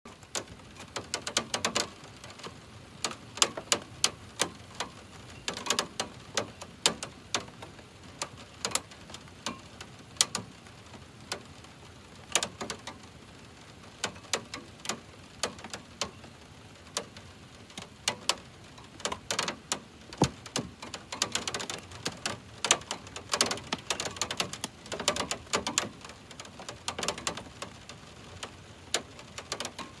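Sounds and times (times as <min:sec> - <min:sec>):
faint hiss of rain: 0:00.1 - 0:30.0
raindrops ticking on metal: 0:00.1 - 0:30.0.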